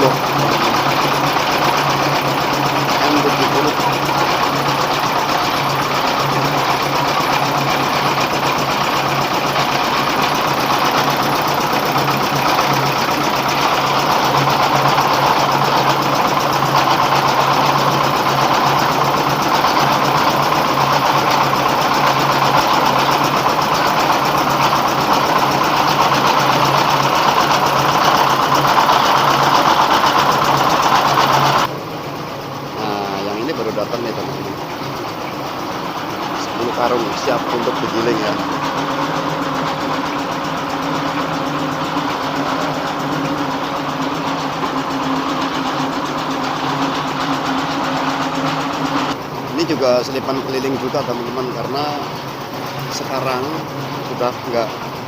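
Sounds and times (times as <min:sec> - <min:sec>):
diesel engine drone: 0:00.0 - 0:55.0
milling machinery rushing hiss: 0:00.0 - 0:55.0.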